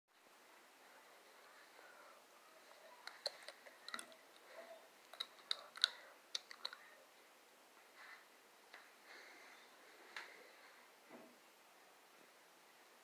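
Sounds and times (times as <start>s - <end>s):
faint background hiss: 0.1s - 13.0s.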